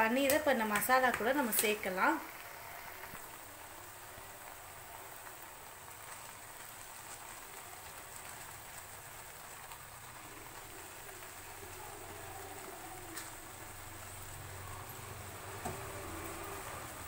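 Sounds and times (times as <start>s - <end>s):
gravy sizzling with pops: 0.0s - 17.0s.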